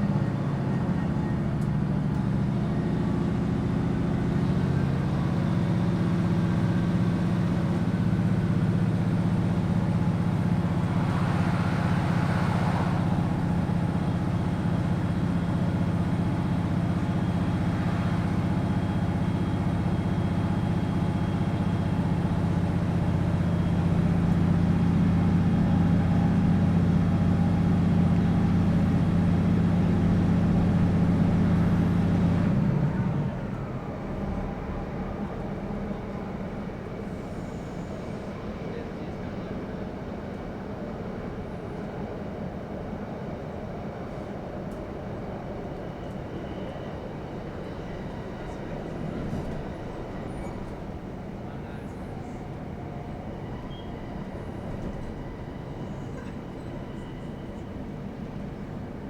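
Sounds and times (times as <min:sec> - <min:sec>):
diesel train engine idling: 0:00.0 - 0:59.0.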